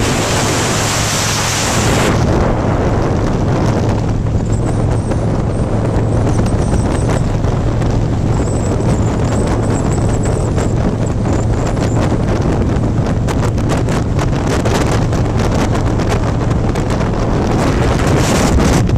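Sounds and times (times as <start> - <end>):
motorcycle engine drone: 0.0 - 18.9
wind buffeting microphone: 0.0 - 18.9.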